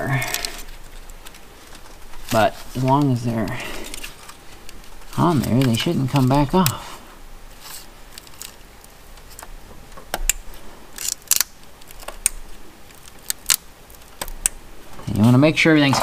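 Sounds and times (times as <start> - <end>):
plastic connectors clicking: 0.0 - 6.8, 8.1 - 14.6.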